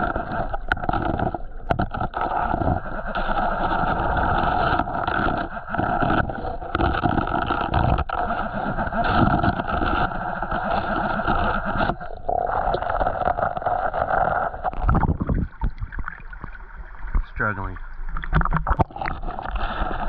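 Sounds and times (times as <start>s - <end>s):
water sloshing from wading: 0.0s - 20.0s.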